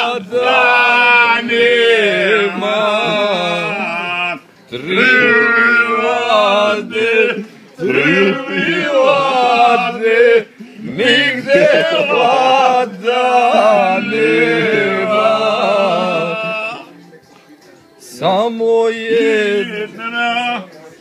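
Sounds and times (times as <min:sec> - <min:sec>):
men singing unaccompanied: 0:00.0 - 0:21.0.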